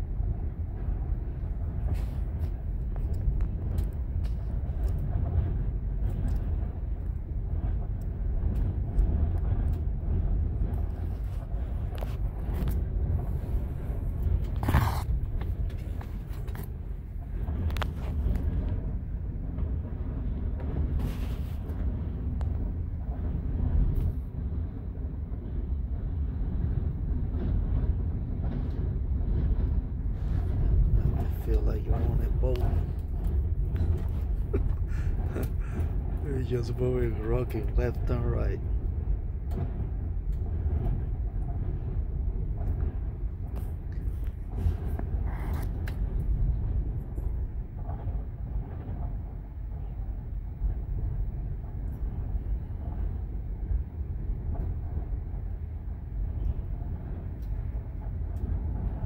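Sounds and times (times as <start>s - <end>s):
gusting wind buffeting vehicle: 0.0s - 59.0s.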